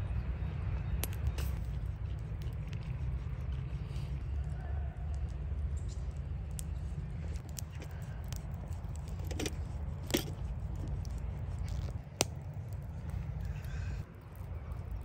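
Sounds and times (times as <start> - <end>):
low steady rumble: 0.0 - 15.0
campfire crackling: 0.9 - 15.0.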